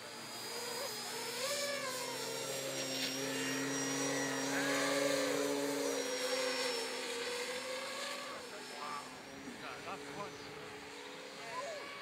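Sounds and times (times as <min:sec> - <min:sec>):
model aircraft propellers whining: 0:00.0 - 0:12.0.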